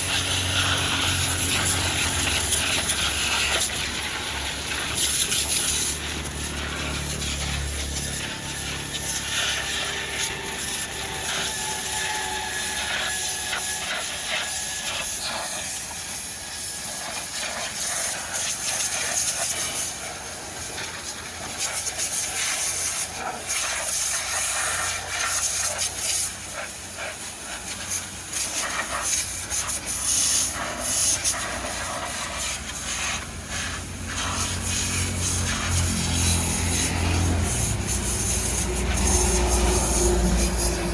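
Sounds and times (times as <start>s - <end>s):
water jet spraying: 0.0s - 40.9s.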